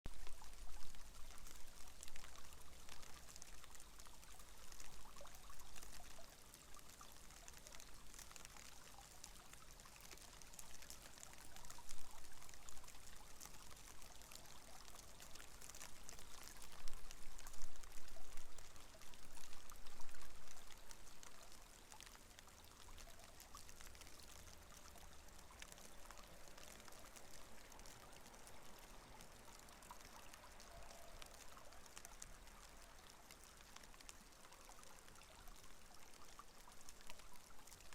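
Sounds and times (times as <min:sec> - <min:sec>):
heavy rain on a window: 0:07.4 - 0:37.9.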